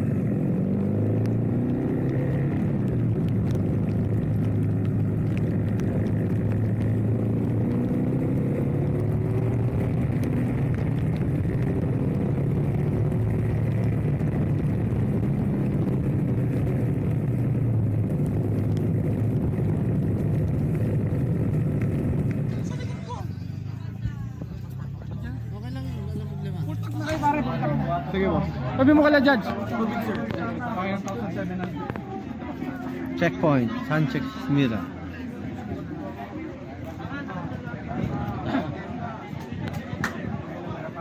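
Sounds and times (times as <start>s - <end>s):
low rushing rumble: 0.0s - 41.0s
motorcycle engine cruising: 0.0s - 41.0s.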